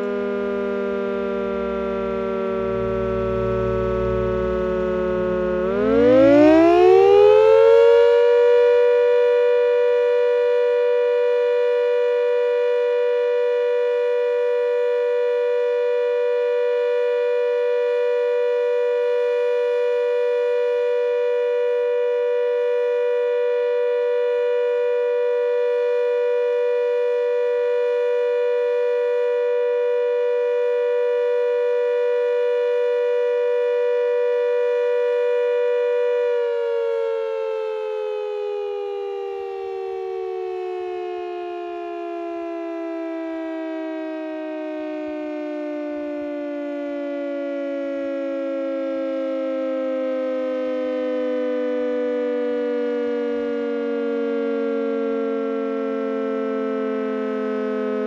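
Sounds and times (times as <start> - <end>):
siren sounding: 0.0 - 58.0.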